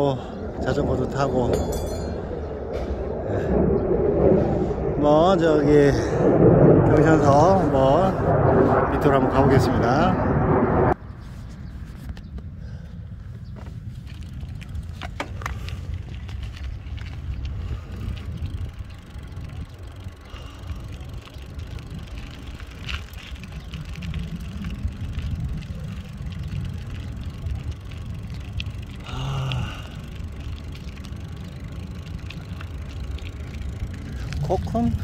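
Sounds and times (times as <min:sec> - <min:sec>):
wind on microphone: 0:00.0 - 0:12.5, 0:13.1 - 0:35.0
bicycle tyres rumbling on concrete: 0:00.0 - 0:35.0.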